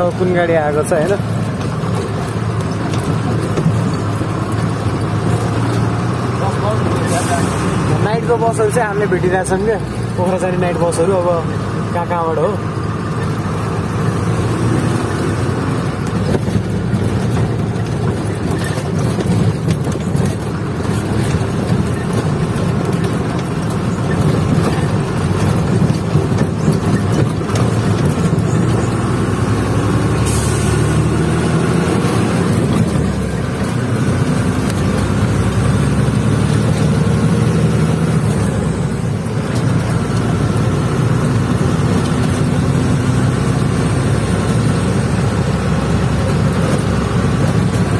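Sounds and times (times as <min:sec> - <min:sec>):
diesel truck engine running: 0:00.0 - 0:47.9.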